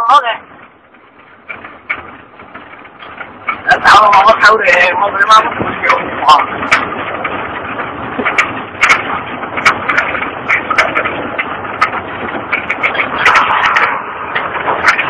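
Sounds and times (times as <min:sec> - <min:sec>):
cab rattling and knocking: 0:00.0 - 0:15.0
truck engine rumble: 0:00.0 - 0:15.0.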